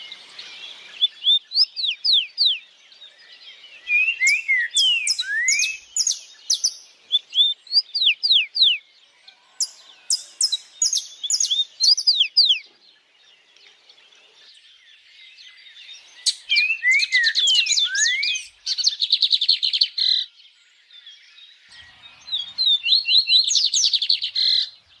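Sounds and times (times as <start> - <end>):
songbirds singing and chirping: 0.0 - 25.0.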